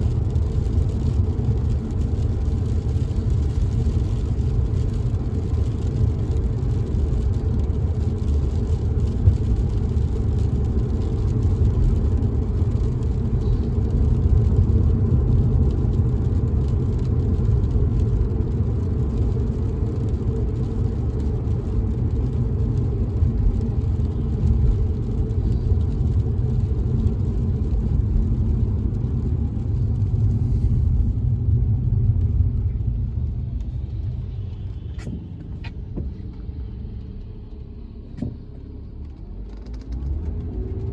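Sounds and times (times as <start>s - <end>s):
car road and engine rumble: 0.0s - 40.9s
rain hiss and patter: 0.0s - 40.9s.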